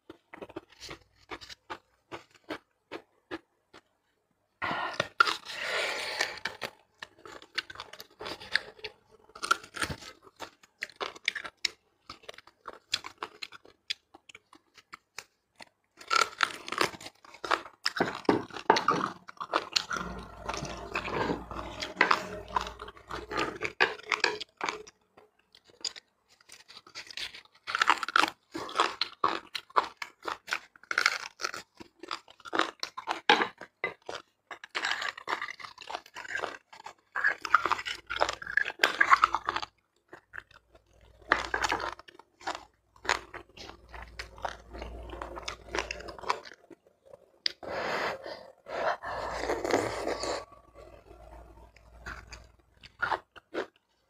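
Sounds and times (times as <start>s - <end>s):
wet chewing and smacking: 0.0s - 4.0s, 4.9s - 47.7s, 49.0s - 54.0s
crunching: 0.0s - 4.1s, 4.7s - 47.8s, 48.4s - 54.0s.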